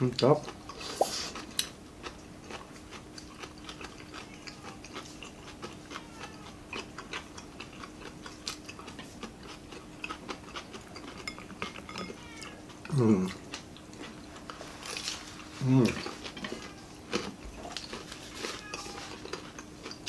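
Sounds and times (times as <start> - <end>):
chewing and lip-smacking: 0.0 - 20.0
faint steady hum: 0.0 - 20.0.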